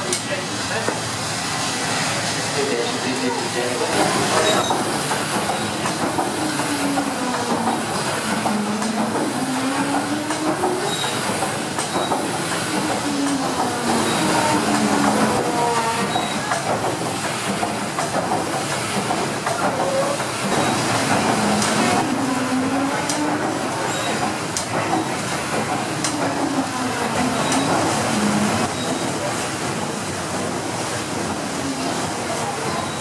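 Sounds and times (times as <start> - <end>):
steam engine clatter and hiss: 0.0 - 33.0.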